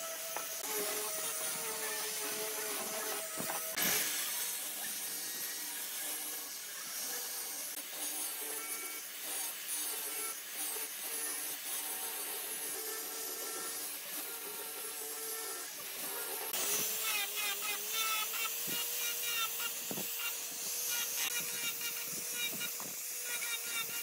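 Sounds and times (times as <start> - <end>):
angle grinder sanding wood: 0.0 - 24.0.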